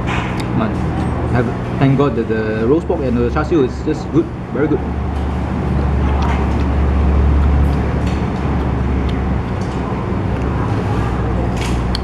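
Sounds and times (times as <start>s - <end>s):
engine hum: 0.0s - 12.0s
road traffic rumble: 0.0s - 12.0s.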